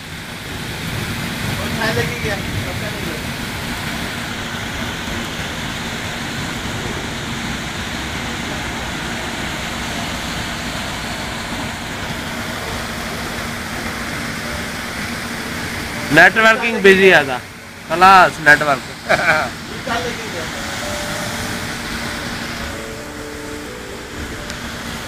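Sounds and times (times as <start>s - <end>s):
heavy rain and running water: 0.0s - 25.0s.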